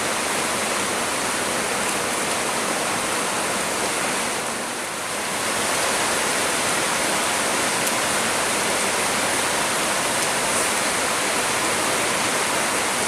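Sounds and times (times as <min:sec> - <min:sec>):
heavy rain pouring on trees: 0:00.0 - 0:13.0.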